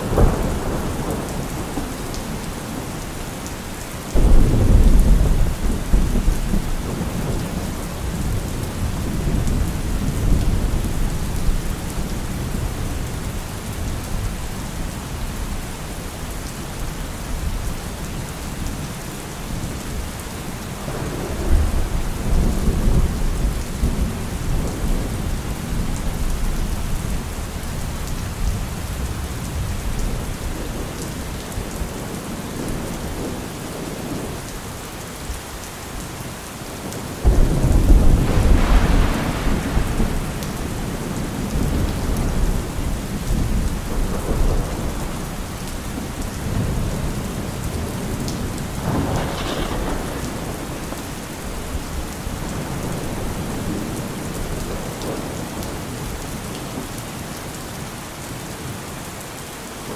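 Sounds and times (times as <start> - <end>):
thunder clap and rumble: 0.0 - 16.2, 20.8 - 34.4, 36.9 - 56.7
heavy rain: 0.0 - 59.9.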